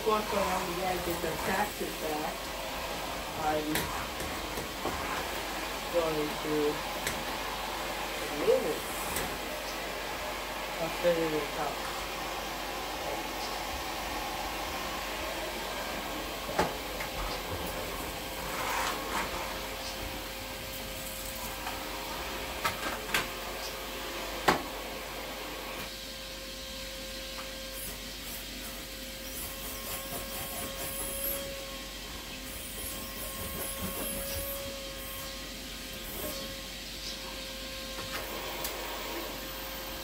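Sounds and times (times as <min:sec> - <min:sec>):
shop vacuum whining: 0:00.0 - 0:40.0.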